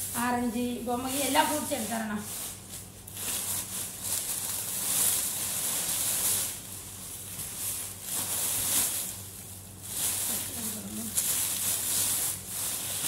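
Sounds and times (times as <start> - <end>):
plastic bags rustling: 0.0 - 13.0.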